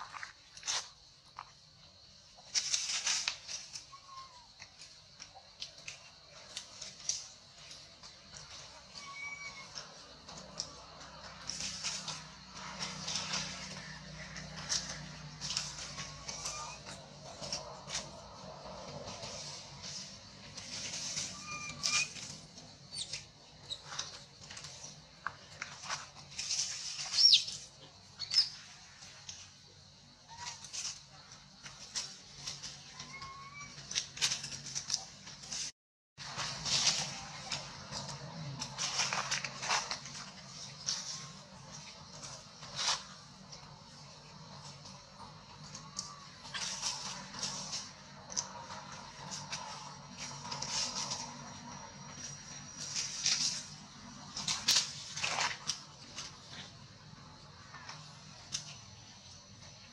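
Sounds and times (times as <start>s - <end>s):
dry leaves crackling and rustling: 2.4s - 29.5s, 30.3s - 59.9s.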